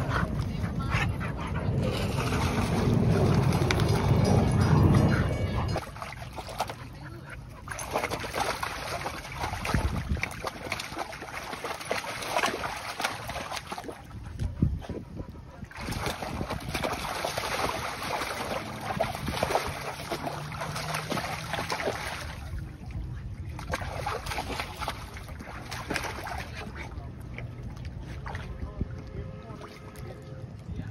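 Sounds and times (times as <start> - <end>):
water splashing in wading pool: 0.0 - 30.9.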